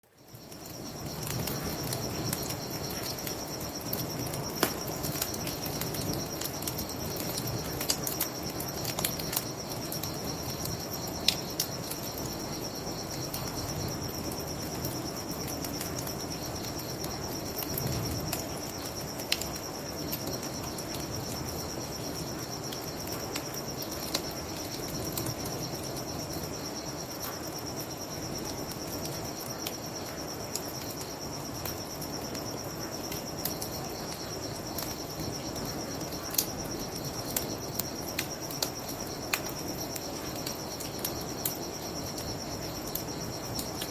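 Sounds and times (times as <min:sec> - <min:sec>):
crickets trilling: 0:00.0 - 0:43.9
wood fire crackling and popping: 0:00.2 - 0:43.9.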